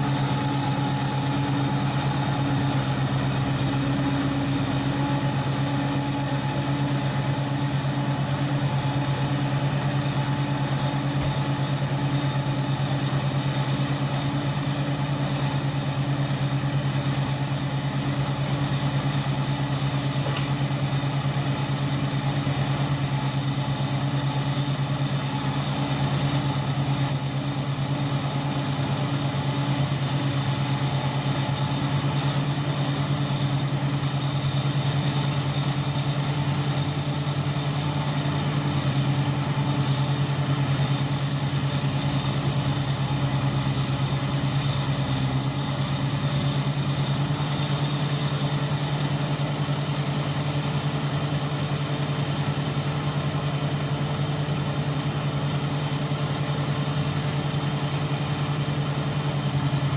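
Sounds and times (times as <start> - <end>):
rice harvester running: 0.0 - 59.9.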